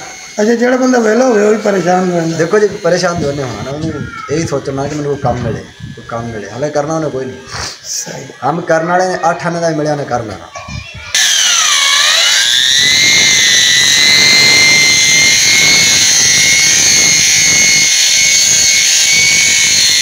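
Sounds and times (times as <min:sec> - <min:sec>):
angle grinder sanding marble: 0:00.0 - 0:08.1, 0:11.1 - 0:20.0.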